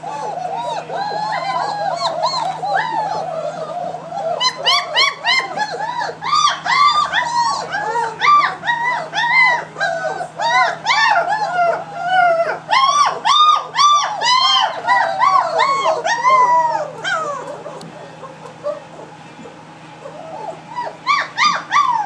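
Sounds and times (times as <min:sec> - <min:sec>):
puppies whining and crying: 0:00.0 - 0:22.0.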